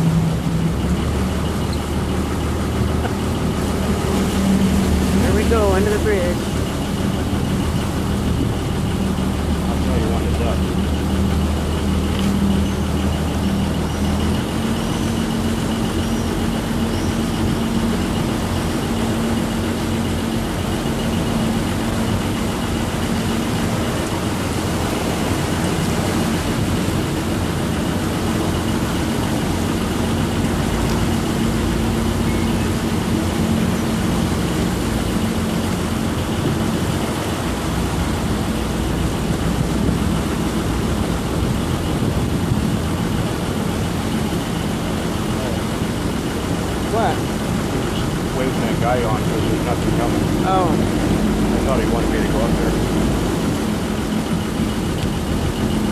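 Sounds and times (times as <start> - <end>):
boat engine running: 0.0 - 55.9
water rushing along hull: 0.0 - 55.9.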